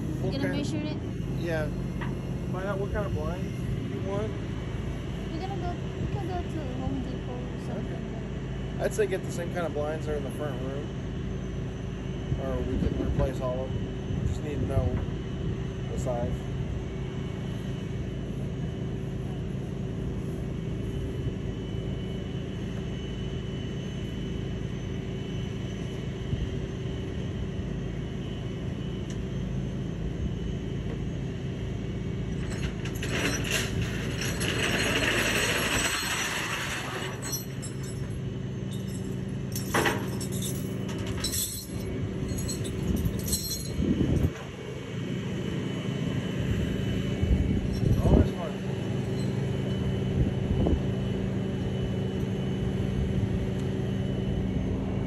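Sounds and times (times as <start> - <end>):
tow truck engine running: 0.0 - 55.0.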